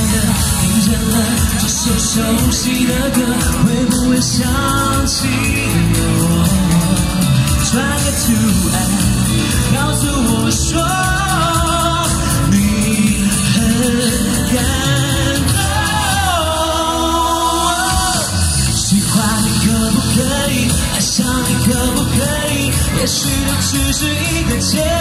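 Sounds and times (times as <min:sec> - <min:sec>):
man singing into microphone: 0:00.0 - 0:25.0
pop backing track: 0:00.0 - 0:25.0.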